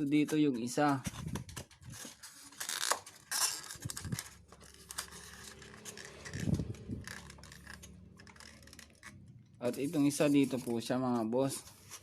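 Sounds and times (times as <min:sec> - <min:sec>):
styrofoam scraping and rustling: 0:00.0 - 0:12.0.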